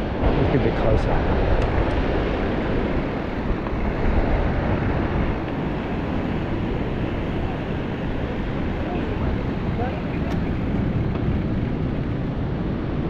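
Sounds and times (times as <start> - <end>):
bike tyres rolling on concrete: 0.0 - 13.0
wind noise on microphone: 0.0 - 13.0.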